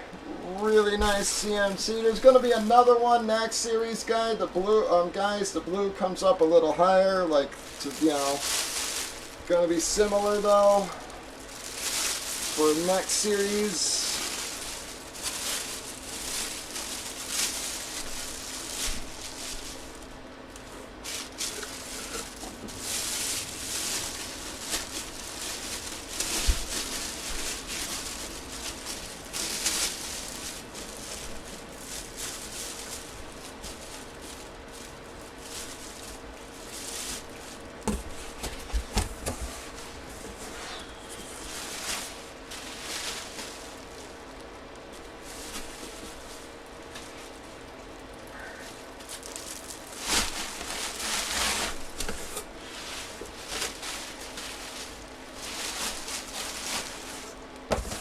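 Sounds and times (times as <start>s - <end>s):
rustling and handling: 0.7s - 3.2s, 6.2s - 58.0s.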